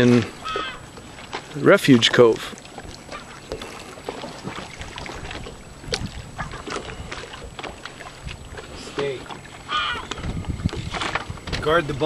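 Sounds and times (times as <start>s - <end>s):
small splashes: 0.0s - 11.7s
water washing along hull: 0.0s - 12.0s
wind buffeting microphone: 0.0s - 12.0s.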